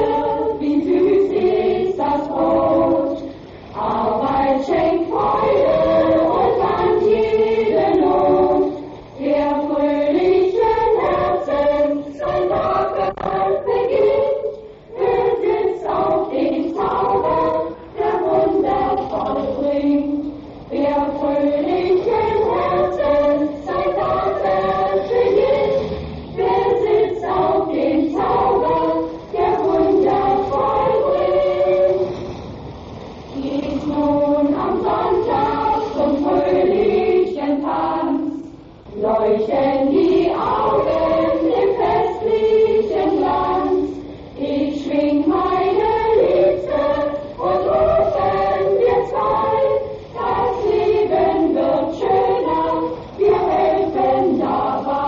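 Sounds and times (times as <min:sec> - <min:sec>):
women's choir singing: 0:00.0 - 0:32.5, 0:33.3 - 0:55.0.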